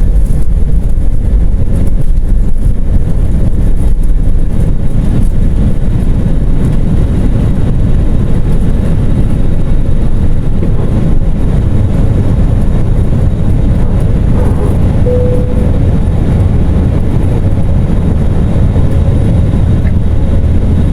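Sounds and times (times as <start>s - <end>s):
jet engines rumbling in cabin: 0.0s - 20.9s.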